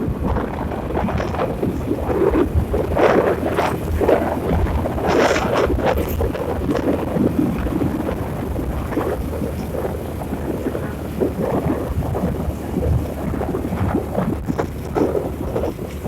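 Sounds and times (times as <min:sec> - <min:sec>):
low engine hum: 0:00.0 - 0:16.0
wind buffeting microphone: 0:00.0 - 0:16.0.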